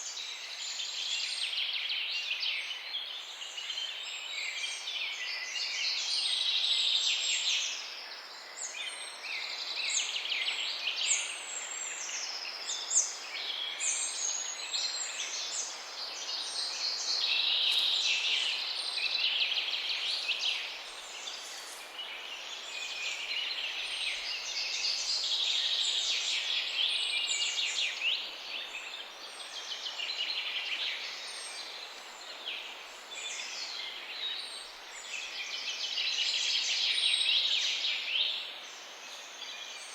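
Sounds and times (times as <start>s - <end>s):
light steady hiss: 0.0s - 39.9s.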